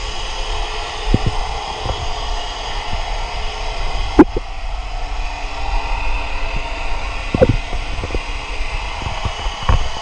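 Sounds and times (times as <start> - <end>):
underwater hiss and rumble: 0.0 - 10.0.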